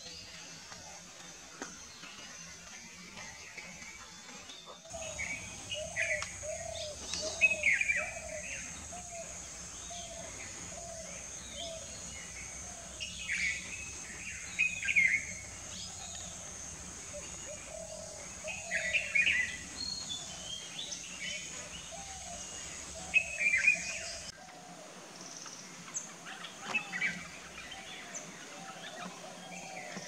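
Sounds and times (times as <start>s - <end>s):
birds chirping: 0.2s - 24.4s.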